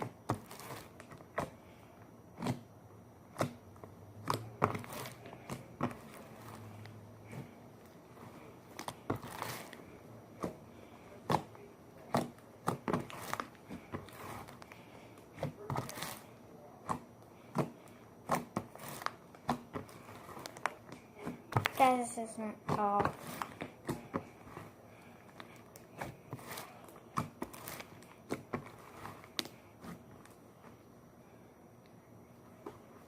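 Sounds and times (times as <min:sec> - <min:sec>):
slime squished by hand: 0:02.3 - 0:22.0, 0:22.6 - 0:30.4.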